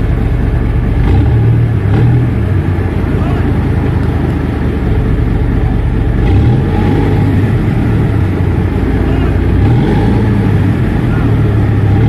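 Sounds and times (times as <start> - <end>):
boat engine low drone: 0.0 - 12.0.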